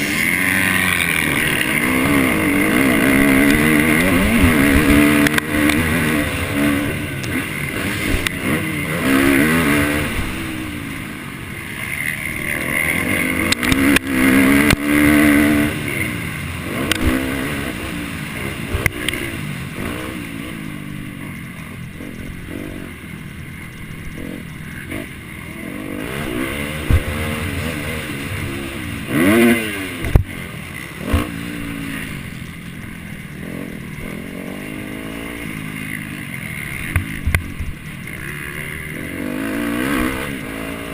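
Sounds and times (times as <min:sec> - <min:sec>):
motocross bike engine racing: 0:00.0 - 0:40.9.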